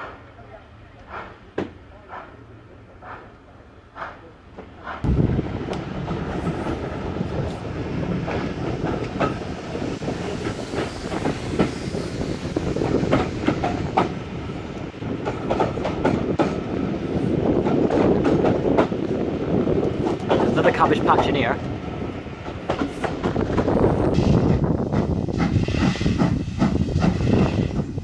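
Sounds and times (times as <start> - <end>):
train wheels clattering on rails: 3.0 - 28.0
wind rushing on microphone: 5.0 - 28.0.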